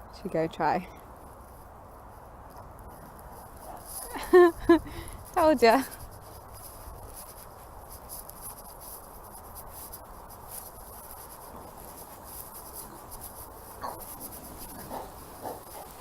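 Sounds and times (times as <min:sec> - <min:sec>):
insects chirring: 0:00.9 - 0:16.0
grass rustling: 0:01.0 - 0:16.0.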